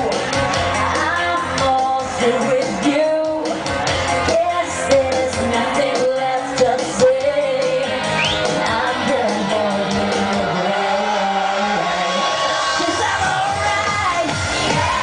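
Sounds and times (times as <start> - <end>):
woman singing: 0.0 - 10.9, 12.8 - 15.0
live pop band: 0.0 - 15.0.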